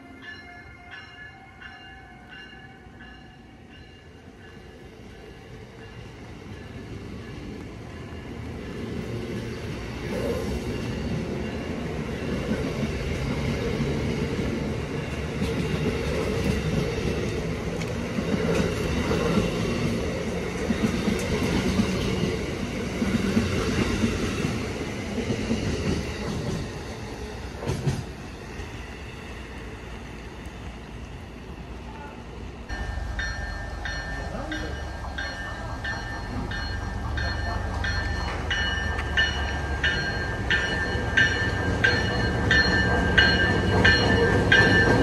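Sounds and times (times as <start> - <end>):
train wheels rumbling on rails: 1.6 - 45.0.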